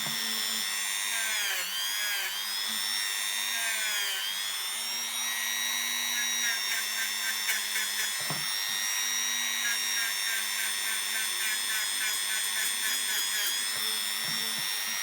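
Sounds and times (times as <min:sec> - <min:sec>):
rotary tool whining: 0:00.0 - 0:15.0.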